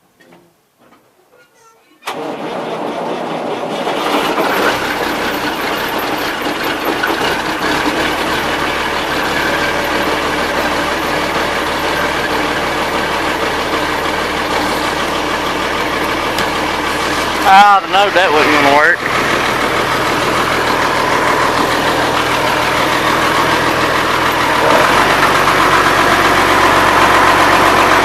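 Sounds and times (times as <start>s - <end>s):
diesel engine knocking idle: 3.2s - 28.0s.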